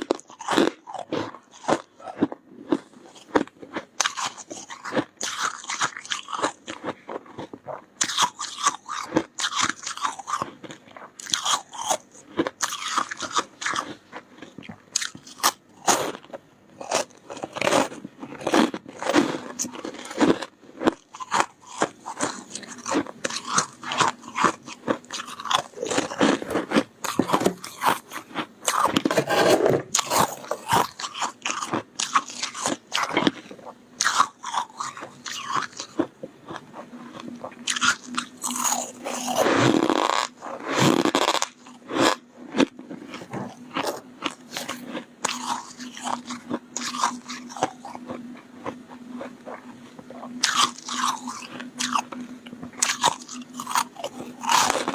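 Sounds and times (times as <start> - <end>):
crunchy biting and chewing: 0.0 - 54.9.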